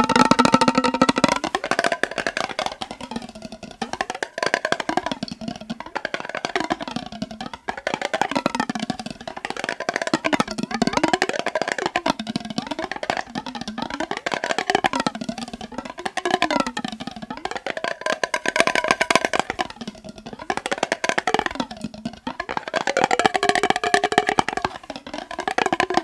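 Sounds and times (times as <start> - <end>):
fast tapping on glass jar: 0.0 - 26.0.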